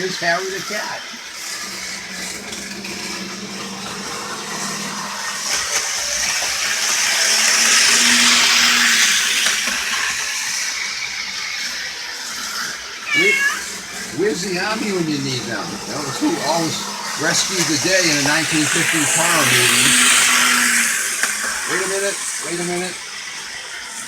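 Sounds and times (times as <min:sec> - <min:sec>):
model train motor whirring: 0:00.0 - 0:24.0.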